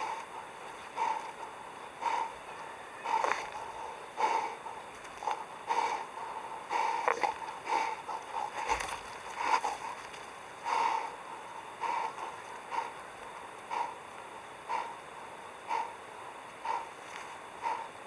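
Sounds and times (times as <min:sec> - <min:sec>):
wild boar snorting and huffing: 0:00.0 - 0:18.0.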